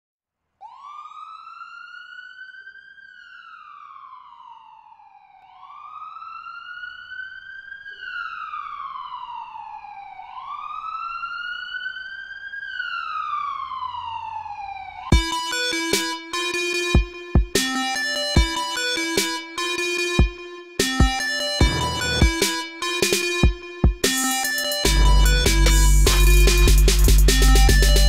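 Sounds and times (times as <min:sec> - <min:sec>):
emergency vehicle siren wailing: 0:00.6 - 0:28.0.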